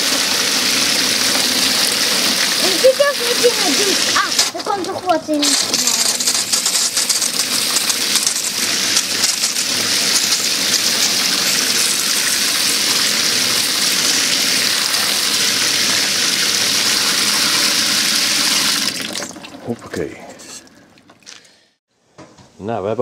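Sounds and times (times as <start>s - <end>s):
hose spraying water: 0.0s - 20.8s.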